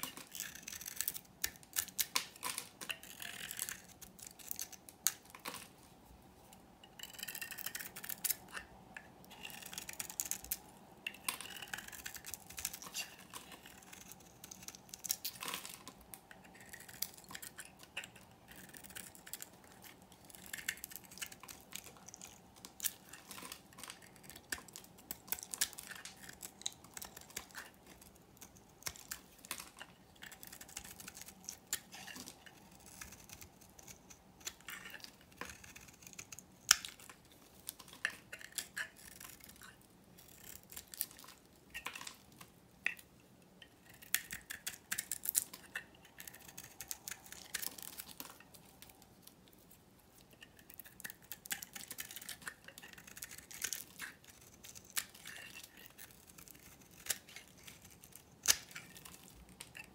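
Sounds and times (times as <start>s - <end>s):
knife scraping soap: 0.0s - 5.7s, 6.9s - 42.2s, 42.9s - 48.5s, 50.2s - 59.9s.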